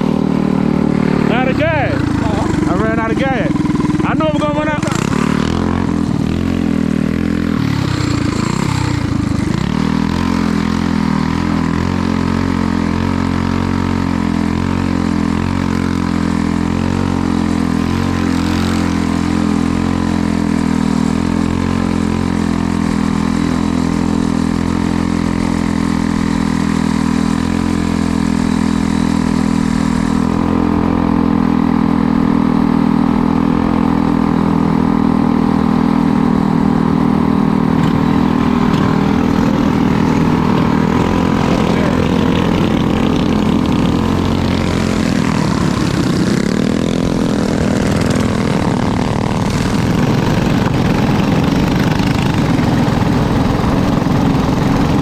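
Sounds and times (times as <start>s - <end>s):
motor vehicle engine running: 0.0s - 55.0s.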